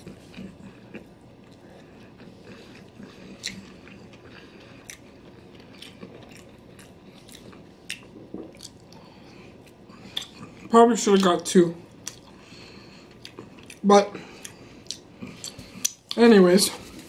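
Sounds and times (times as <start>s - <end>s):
person chewing: 0.0s - 16.3s.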